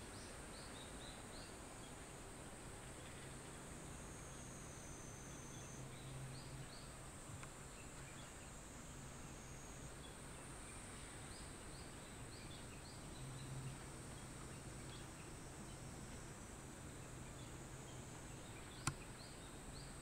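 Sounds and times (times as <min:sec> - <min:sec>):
high insect drone: 0:00.0 - 0:20.0
low steady hum: 0:00.0 - 0:20.0.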